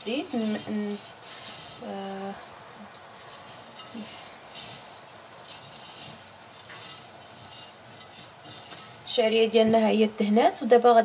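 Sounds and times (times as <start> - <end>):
hands tossing dry noodles in bowl: 0.0 - 10.3.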